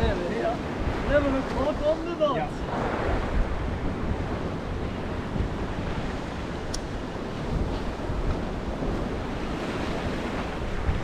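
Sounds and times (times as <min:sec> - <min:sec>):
ocean swell breaking on rocks: 0:00.0 - 0:11.0
wind buffeting microphone: 0:00.0 - 0:11.0.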